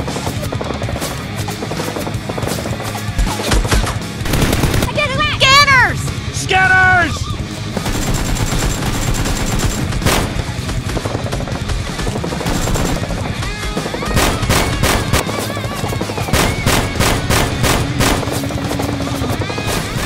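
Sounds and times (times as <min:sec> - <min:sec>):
gunshots: 0:00.0 - 0:05.2, 0:07.6 - 0:20.0
dramatic action music: 0:00.0 - 0:20.0.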